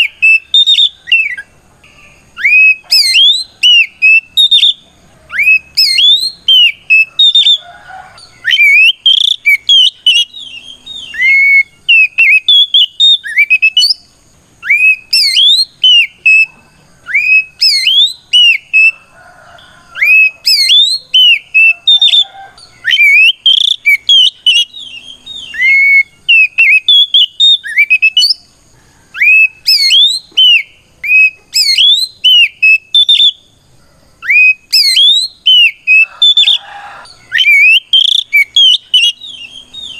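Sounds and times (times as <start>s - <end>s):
bird singing whistled notes: 0.0s - 33.6s, 34.2s - 39.9s.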